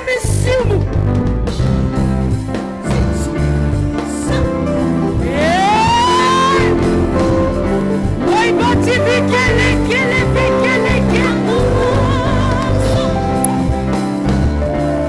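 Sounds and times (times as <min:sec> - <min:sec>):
praise band music: 0:00.0 - 0:15.0.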